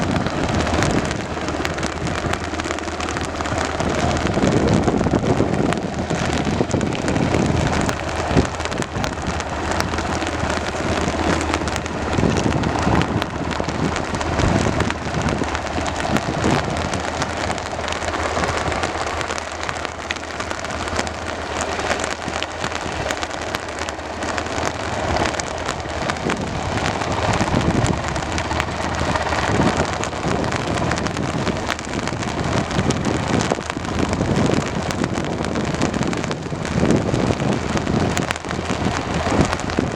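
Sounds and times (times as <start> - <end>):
rain falling: 0.0 - 39.9
wind gusting on microphone: 0.0 - 39.9.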